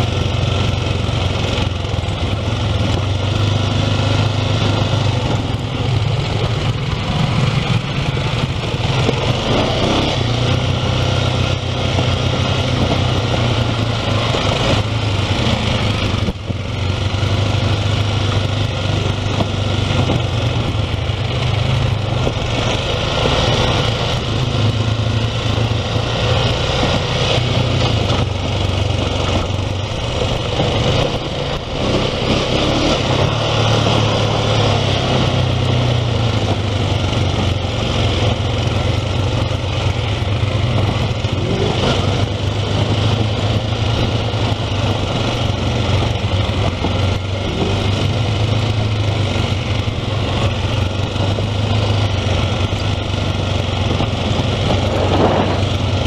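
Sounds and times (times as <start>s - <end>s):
atv engine running: 0.0s - 56.0s
tyres on dirt trail: 0.0s - 56.0s.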